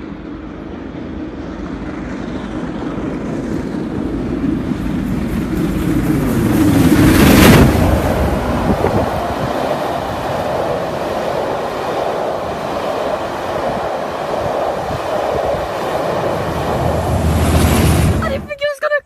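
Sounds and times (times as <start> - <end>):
train wheels on track: 0.0 - 18.7
steam locomotive passing: 0.0 - 19.0.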